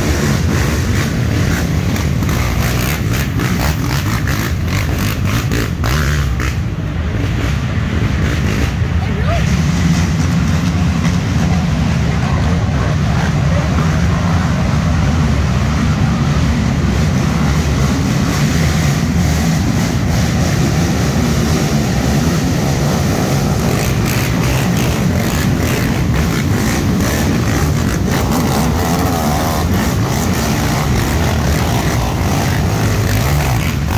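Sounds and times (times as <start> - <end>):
racing quad engines revving: 0.0 - 33.9.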